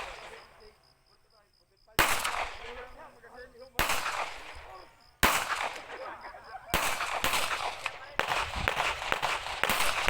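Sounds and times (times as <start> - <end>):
pistol shots with echo: 0.0 - 0.6, 2.0 - 10.0.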